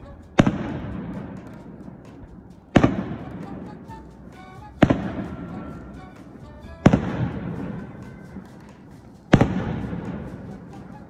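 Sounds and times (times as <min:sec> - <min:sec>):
firework shells booming: 0:00.4 - 0:03.9, 0:04.7 - 0:11.0.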